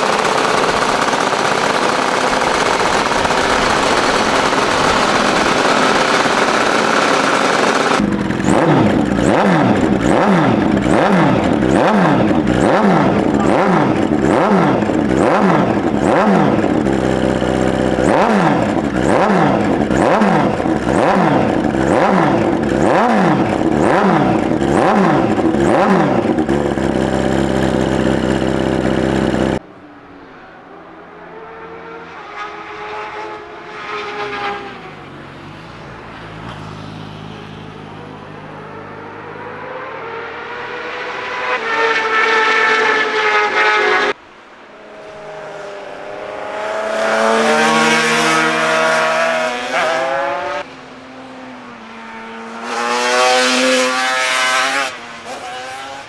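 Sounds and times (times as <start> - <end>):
motorcycle engine revving: 0.0 - 29.6, 31.1 - 56.0
motorcycle passing: 0.0 - 56.0.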